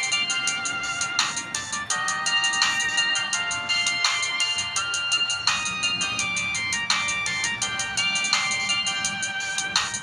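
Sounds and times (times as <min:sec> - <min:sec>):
polyphonic phone ringtone: 0:00.0 - 0:10.0.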